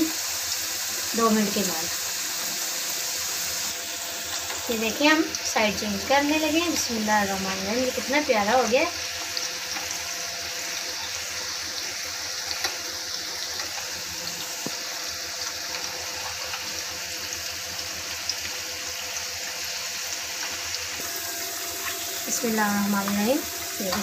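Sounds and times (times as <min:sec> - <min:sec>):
food deep-frying sizzle: 0:00.0 - 0:24.0.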